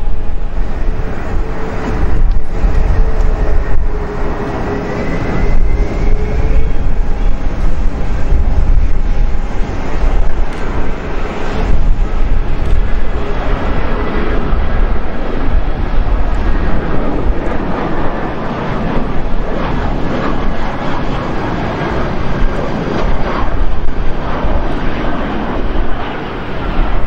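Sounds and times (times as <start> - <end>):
jet engines roaring with whine: 0.0 - 27.0
low rumble: 0.0 - 27.0.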